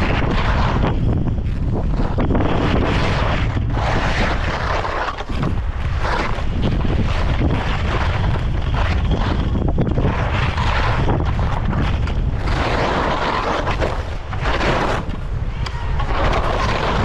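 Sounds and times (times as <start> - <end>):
skis scraping on icy snow: 0.0 - 17.0
wind rumble on microphone: 0.0 - 17.0.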